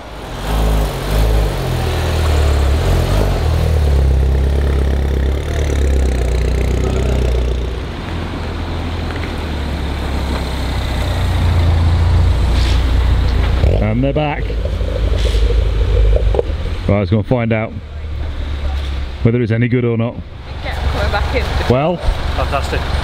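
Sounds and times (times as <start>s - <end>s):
car engine rumbling driving off: 0.0s - 23.0s.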